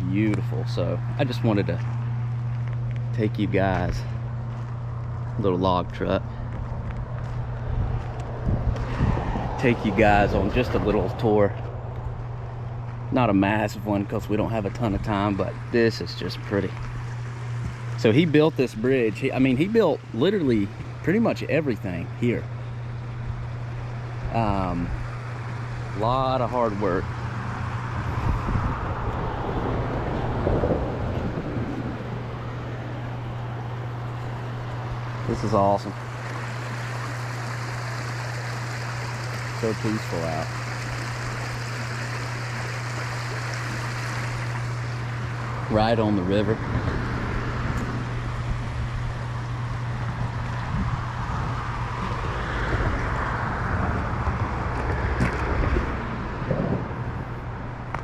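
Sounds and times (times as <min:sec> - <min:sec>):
low engine hum: 0:00.0 - 0:58.0
outdoor noise: 0:00.0 - 0:58.0
broad rushing noise: 0:07.4 - 0:20.6, 0:24.0 - 0:58.0.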